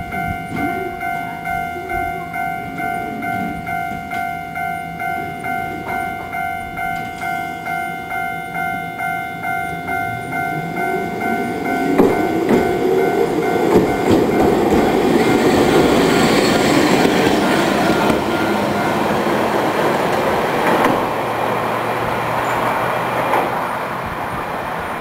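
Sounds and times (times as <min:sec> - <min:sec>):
level crossing bell ringing: 0:00.0 - 0:21.2
tram wheels rumbling on rails: 0:00.0 - 0:25.0.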